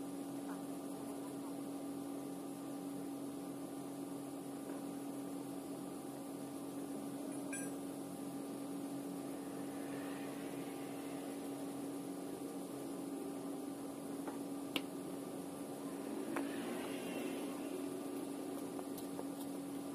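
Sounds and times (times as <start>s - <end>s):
machine humming: 0.0s - 19.9s.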